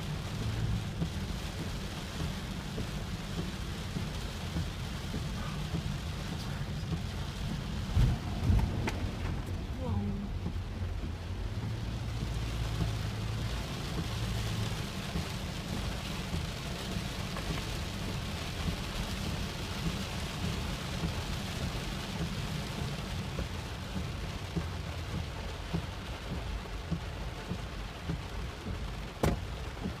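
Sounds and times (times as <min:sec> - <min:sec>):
floodwater rushing: 0:00.0 - 0:26.4.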